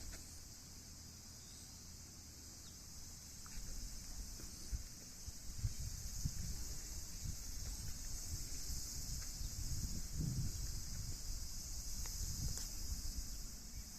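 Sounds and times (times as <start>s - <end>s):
high-pitched insect chorus: 0.0s - 13.9s.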